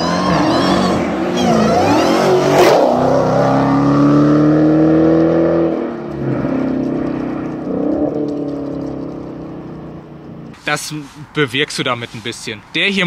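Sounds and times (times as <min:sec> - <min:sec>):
supercharged car engine revving: 0:00.0 - 0:10.6.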